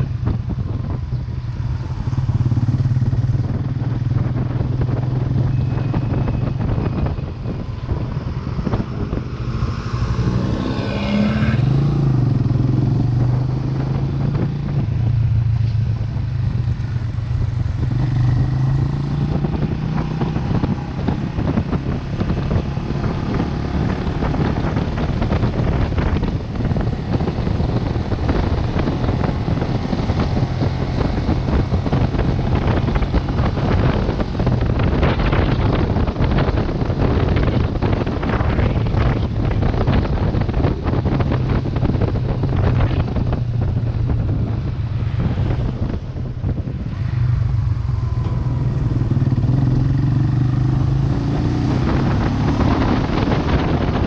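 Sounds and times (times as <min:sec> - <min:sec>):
motorcycle engine running: 0:00.0 - 0:09.7, 0:12.1 - 0:54.0
wind buffeting microphone: 0:00.0 - 0:54.0.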